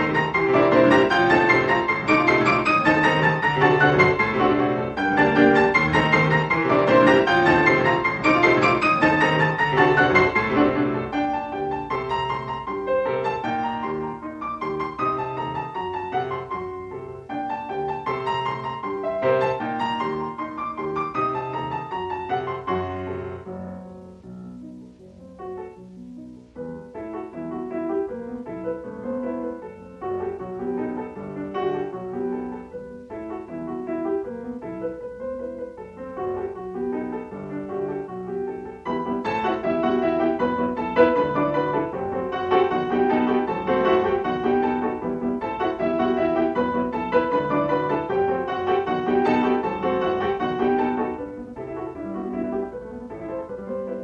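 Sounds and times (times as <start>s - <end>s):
slow piano music: 0.0s - 54.0s.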